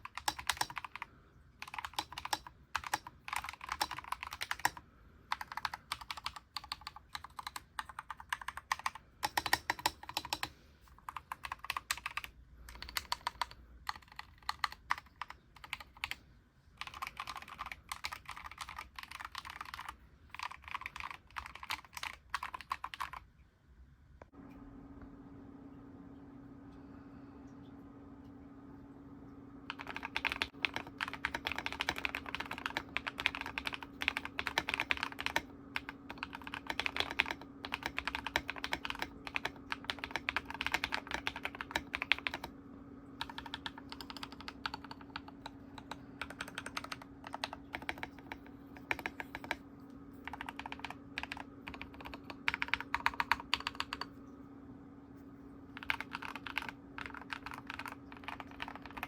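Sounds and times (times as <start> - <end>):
typing on mechanical keyboard: 0.0 - 16.2, 16.8 - 23.3, 29.7 - 54.2, 55.7 - 59.0.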